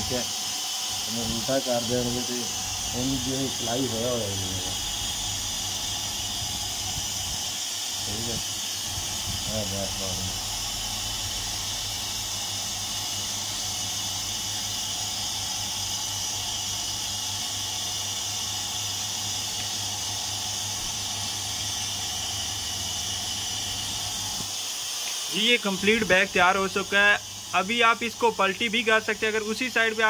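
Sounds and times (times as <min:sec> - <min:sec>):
low electrical hum: 0:00.0 - 0:30.0
machine hissing: 0:00.0 - 0:30.0.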